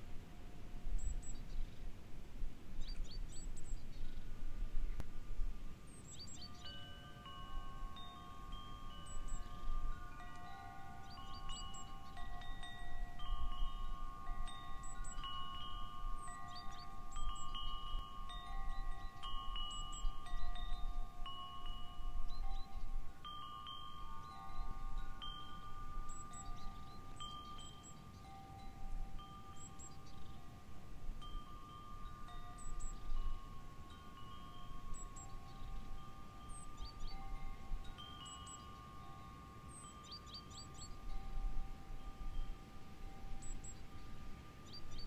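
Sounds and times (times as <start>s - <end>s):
wind chimes ringing: 5.3s - 45.0s.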